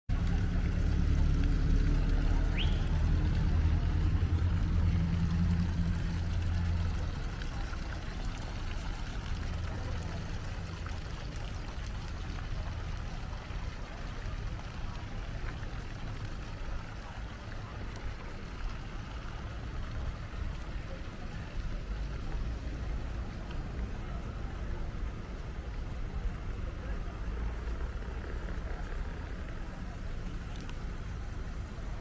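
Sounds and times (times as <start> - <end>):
fountain jets splashing into pond: 0.1 - 32.0
low steady rumble: 0.1 - 32.0.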